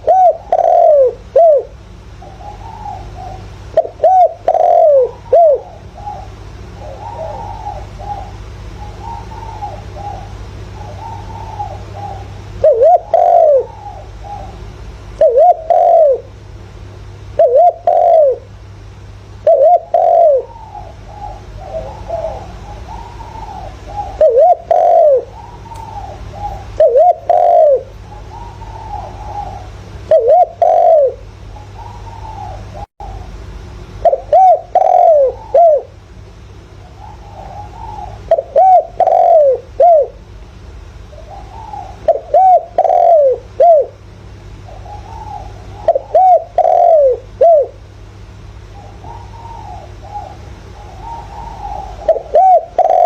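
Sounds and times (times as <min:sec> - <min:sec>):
dove cooing: 0:00.0 - 0:16.4, 0:17.2 - 0:18.7, 0:19.4 - 0:36.1, 0:36.8 - 0:40.4, 0:41.0 - 0:53.0
steady low hum: 0:00.0 - 0:53.0.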